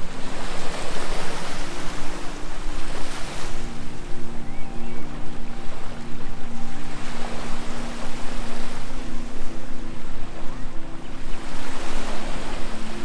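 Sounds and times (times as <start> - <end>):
steady low drone: 0.0 - 13.0.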